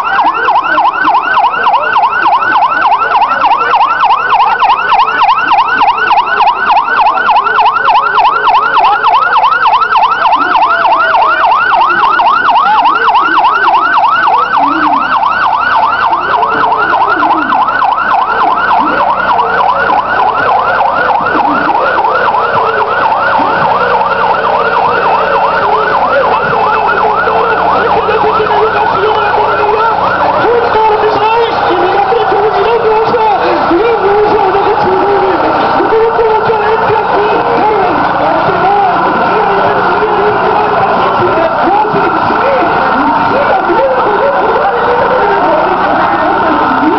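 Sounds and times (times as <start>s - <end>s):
siren yelping: 0.0s - 46.9s.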